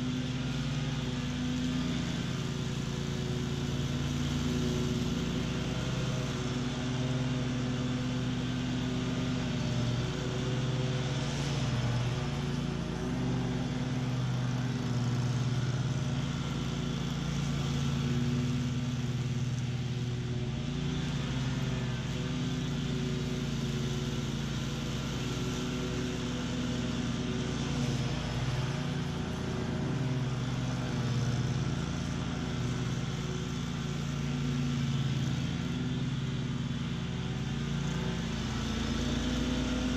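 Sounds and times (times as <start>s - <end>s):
blades cutting weeds: 0.0s - 39.9s
mower engine running: 0.0s - 39.9s.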